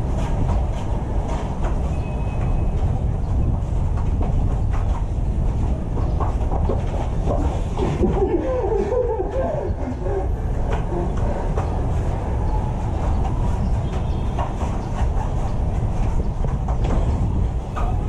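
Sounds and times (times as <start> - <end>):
steady low rumbling: 0.0 - 18.0.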